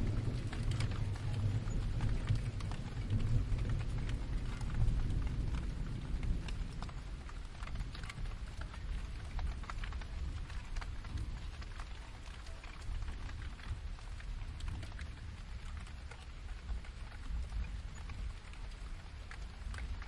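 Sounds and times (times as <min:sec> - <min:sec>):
distant thunder rumble: 0:00.0 - 0:20.0
raindrops tapping: 0:00.0 - 0:20.0
steady rain: 0:00.0 - 0:20.0.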